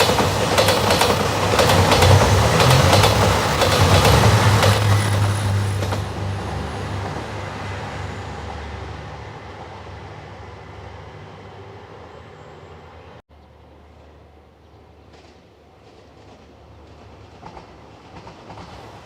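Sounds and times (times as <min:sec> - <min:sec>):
train rumble and engine hum: 0:00.0 - 0:19.0.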